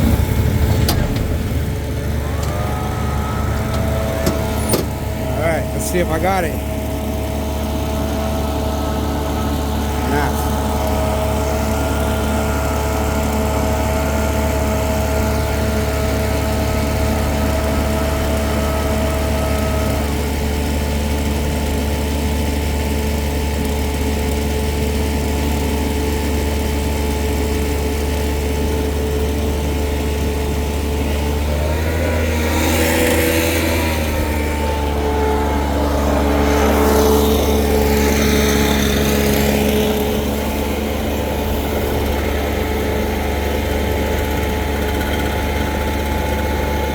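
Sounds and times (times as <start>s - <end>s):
leaf blower engine running: 0.0s - 46.9s.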